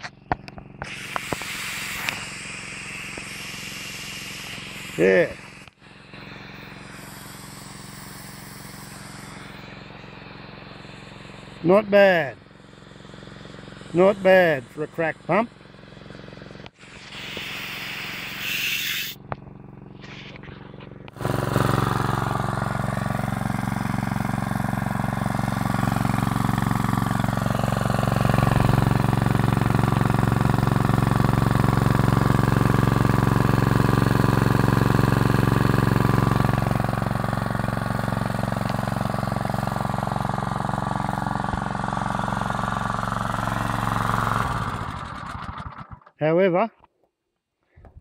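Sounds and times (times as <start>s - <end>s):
small petrol engine running: 0.0s - 46.3s.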